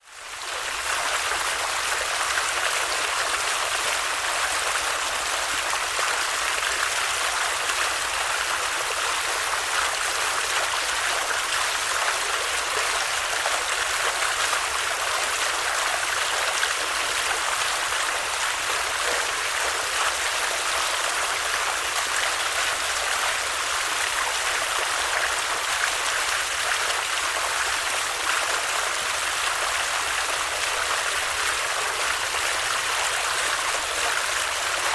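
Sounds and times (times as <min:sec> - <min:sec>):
stream of water flowing: 0:00.0 - 0:34.9.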